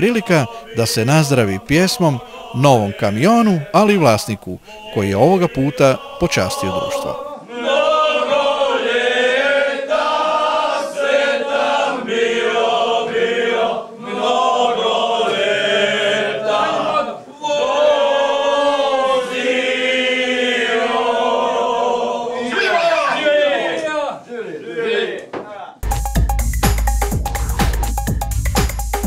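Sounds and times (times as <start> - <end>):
men singing together: 0.0 - 23.8.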